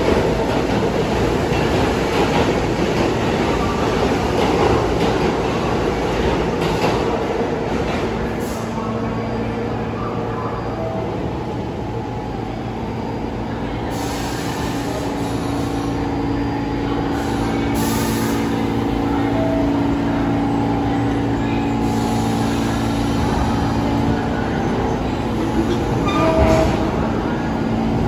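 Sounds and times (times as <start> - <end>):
subway train rumble: 0.0 - 28.0.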